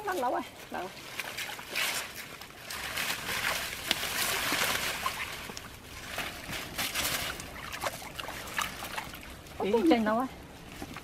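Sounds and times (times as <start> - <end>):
mud and water splashing: 0.0 - 11.0
wet plastic net rustling: 0.0 - 11.0.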